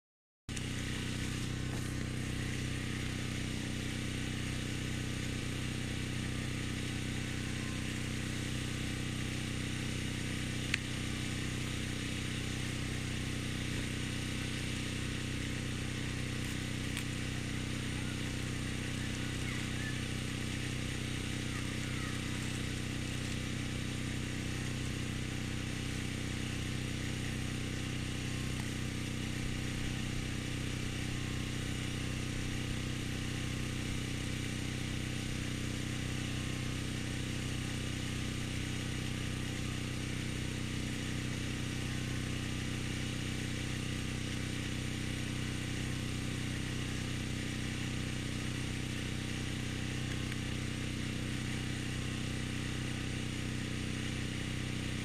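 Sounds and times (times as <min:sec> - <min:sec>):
small engine running steadily: 0:00.5 - 0:55.0.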